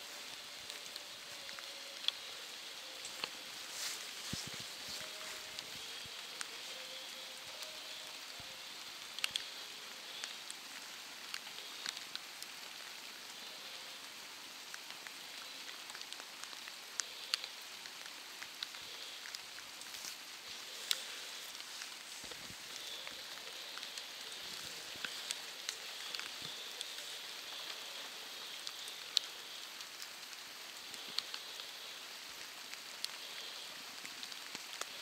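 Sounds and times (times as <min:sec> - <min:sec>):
steady rain hiss: 0:00.0 - 0:35.0
close raindrop ticks: 0:00.1 - 0:35.0.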